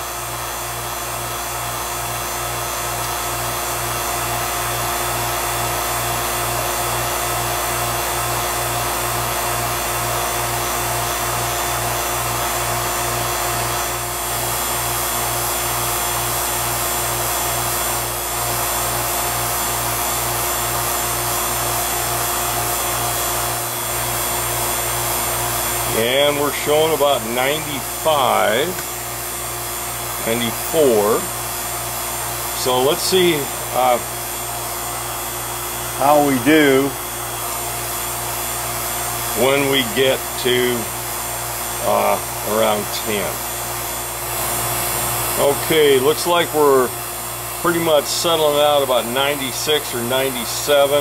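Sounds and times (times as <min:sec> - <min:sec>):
vacuum pump running: 0:00.0 - 0:51.0.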